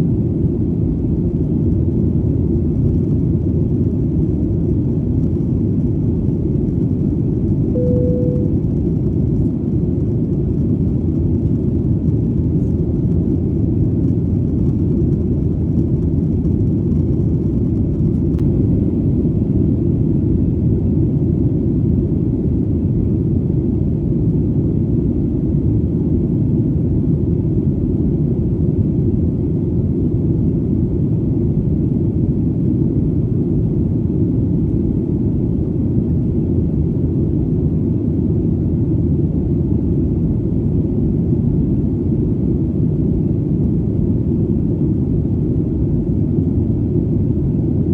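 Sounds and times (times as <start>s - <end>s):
airplane engine rumble: 0.0s - 47.9s.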